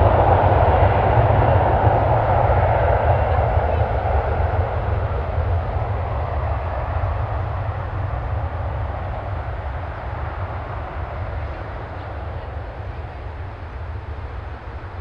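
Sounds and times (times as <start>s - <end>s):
deep rumble: 0.0s - 15.0s
jet engines rushing: 0.0s - 15.0s.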